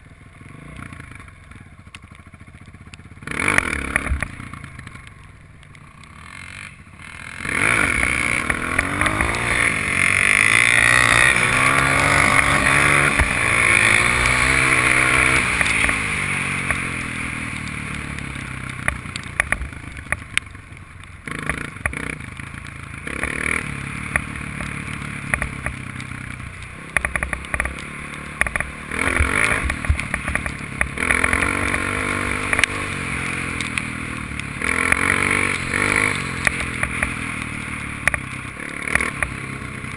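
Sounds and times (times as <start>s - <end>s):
clicks and rattles over rough ground: 0.0s - 39.9s
dirt bike engine revving: 3.2s - 4.7s, 6.0s - 19.8s, 21.2s - 39.9s.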